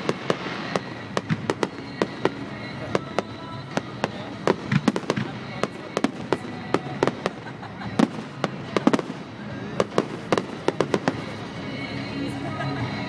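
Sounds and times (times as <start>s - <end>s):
fireworks bangs and cracks: 0.0s - 11.8s.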